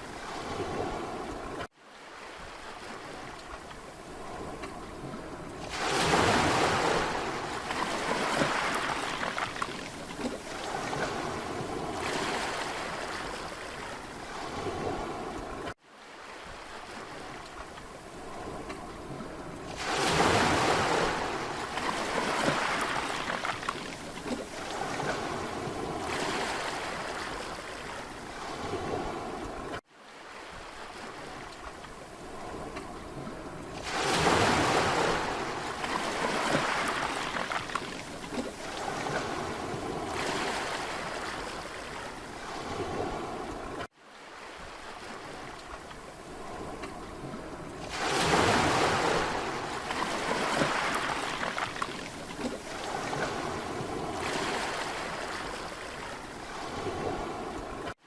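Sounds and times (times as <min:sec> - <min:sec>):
surf breaking on a beach: 0:00.0 - 0:58.0.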